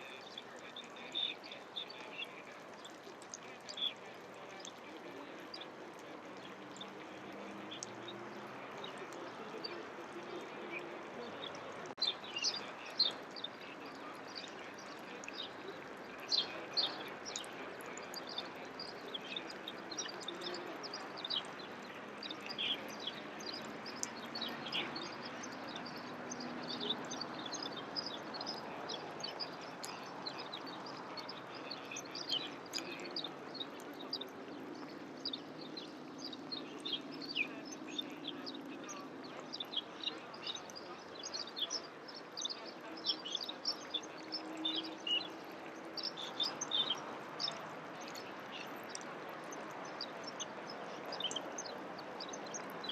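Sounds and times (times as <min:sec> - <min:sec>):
birds chirping and singing: 0:00.0 - 0:52.9.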